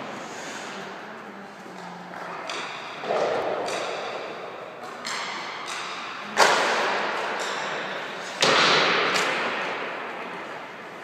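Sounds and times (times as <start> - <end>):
hockey stick tapping puck: 1.8 - 10.7.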